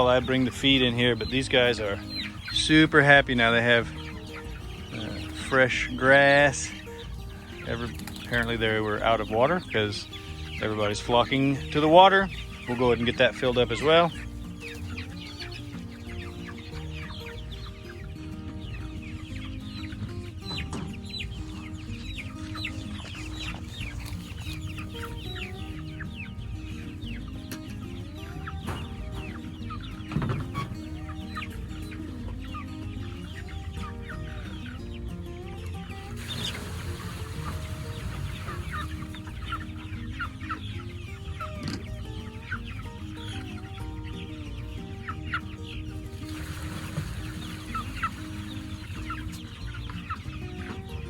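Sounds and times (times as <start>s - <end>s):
background music: 0.0s - 51.0s
chicks peeping and clucking: 0.0s - 51.0s.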